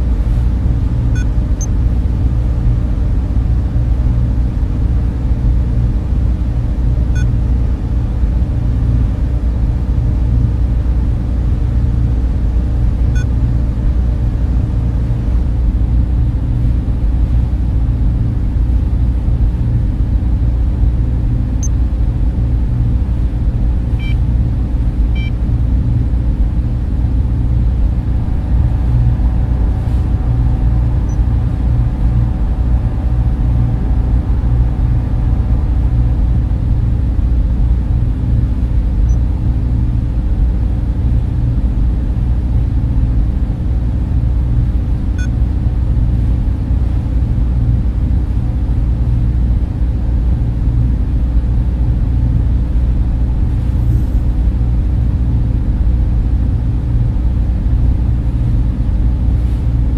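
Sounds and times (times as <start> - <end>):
faint tonal hum: 0.0 - 59.9
server fans droning: 0.0 - 59.9.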